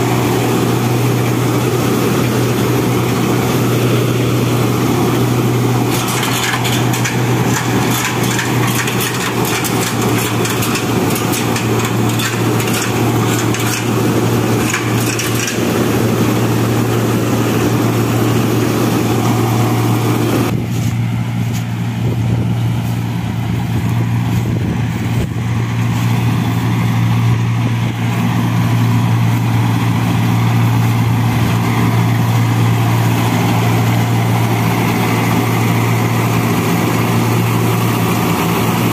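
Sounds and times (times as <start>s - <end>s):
reaper chopping straw: 0.0s - 38.9s
tractor diesel engine hum: 0.0s - 38.9s.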